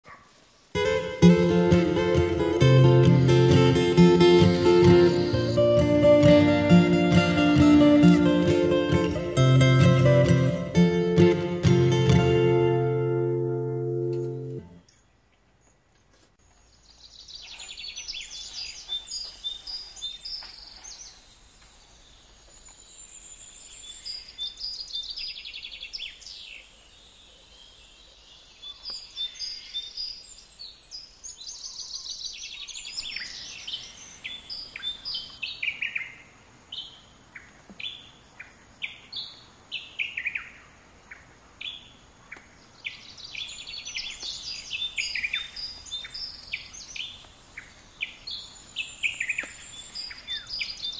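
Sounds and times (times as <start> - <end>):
faint outdoor hiss: 0.0 - 50.9
wild birds chirping: 0.0 - 50.9.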